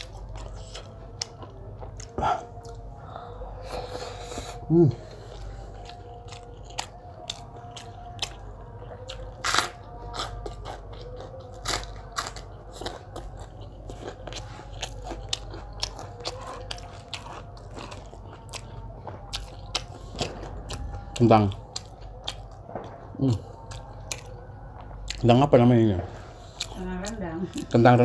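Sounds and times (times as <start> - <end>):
chewing and biting food: 0.0 - 3.0, 3.6 - 28.0
food crunching: 0.0 - 28.0.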